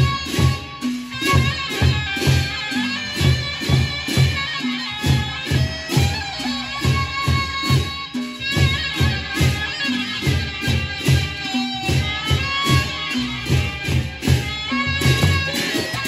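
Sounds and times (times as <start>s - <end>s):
barrel drums beating: 0.0s - 16.0s
clashing cymbals: 0.0s - 16.0s
gongs: 0.0s - 16.0s.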